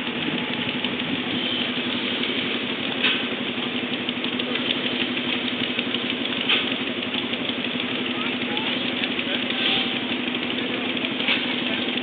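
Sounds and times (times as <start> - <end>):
engine idling with ticking: 0.0 - 12.0
engine knock: 0.0 - 12.0.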